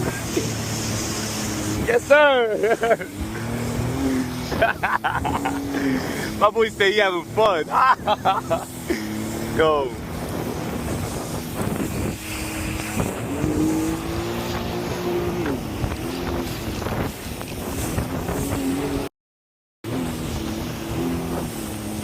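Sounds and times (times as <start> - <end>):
jet ski engine running: 0.0 - 19.1, 19.8 - 22.0
wind and water noise: 0.0 - 19.1, 19.8 - 22.0.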